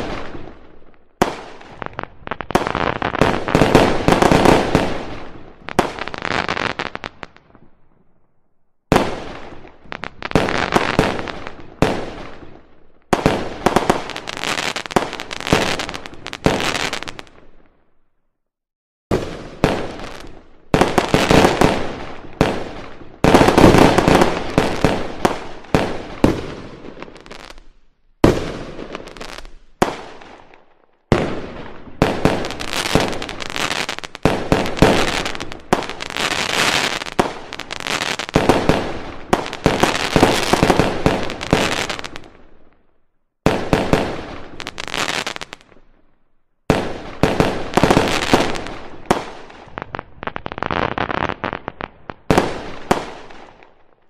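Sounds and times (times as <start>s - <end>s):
fireworks bursting with sharp bangs: 0.0s - 18.0s, 19.1s - 54.0s.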